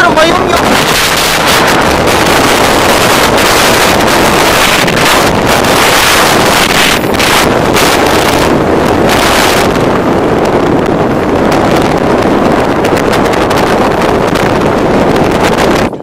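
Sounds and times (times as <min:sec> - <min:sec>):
boat rushing across water: 0:00.0 - 0:16.0
wind buffeting microphone: 0:00.0 - 0:16.0.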